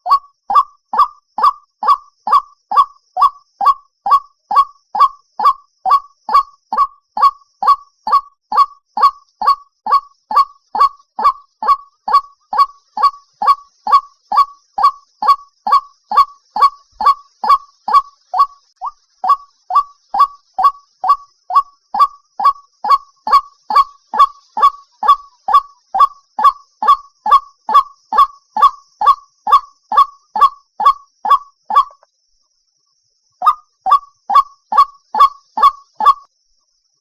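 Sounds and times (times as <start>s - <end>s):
waterhen calling: 0.0s - 32.0s, 33.4s - 36.2s.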